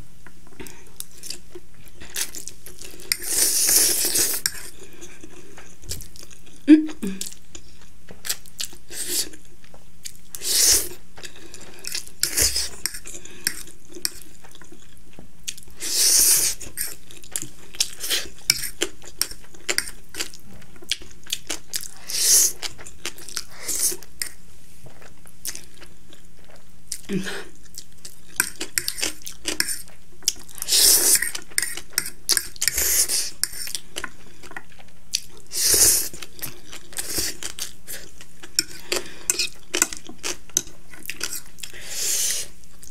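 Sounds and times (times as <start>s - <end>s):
chewing: 7.2s - 41.8s.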